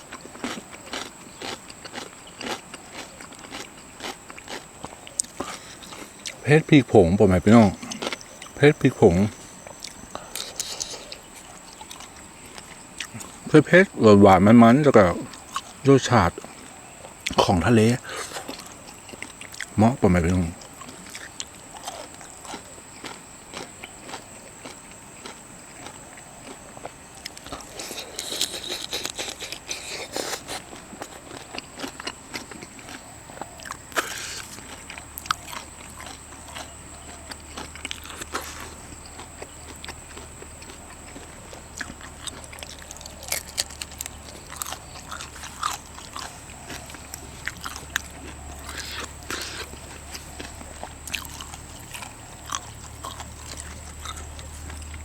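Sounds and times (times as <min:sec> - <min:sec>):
person chewing and biting: 0:00.0 - 0:13.8, 0:15.0 - 0:55.0.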